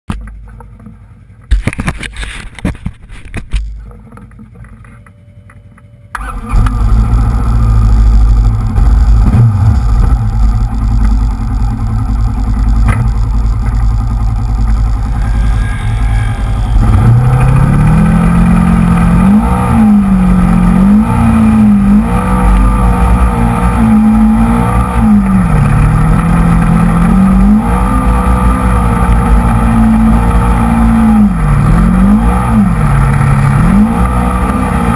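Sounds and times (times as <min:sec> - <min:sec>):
engine revving: 0:06.1 - 0:34.9.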